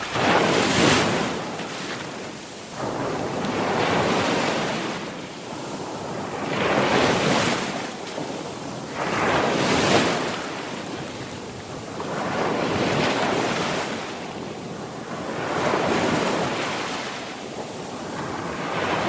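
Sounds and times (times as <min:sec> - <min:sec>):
sea waves breaking on shore: 0:00.0 - 0:19.0.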